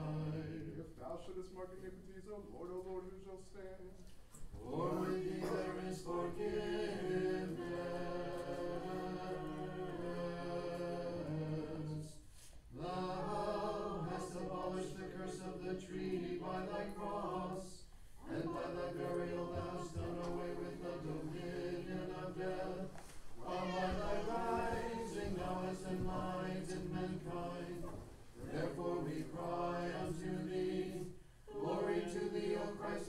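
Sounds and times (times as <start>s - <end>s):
a cappella liturgical chant: 0.0s - 33.0s.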